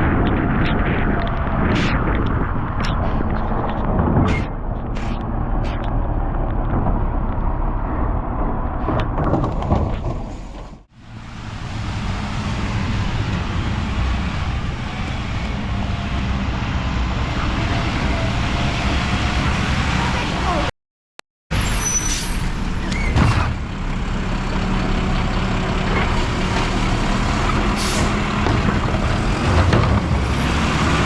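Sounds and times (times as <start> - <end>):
garbage truck engine rumbling: 3.8 - 20.6, 21.6 - 31.0.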